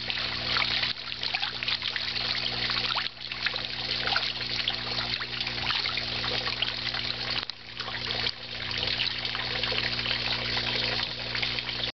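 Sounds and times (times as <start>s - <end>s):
water trickling into pond: 0.0s - 11.9s.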